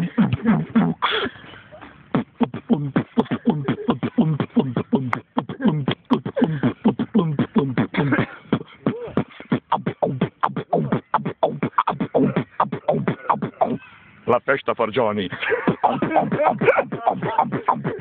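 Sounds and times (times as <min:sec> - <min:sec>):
beatboxing: 0:00.0 - 0:13.9, 0:15.5 - 0:18.0.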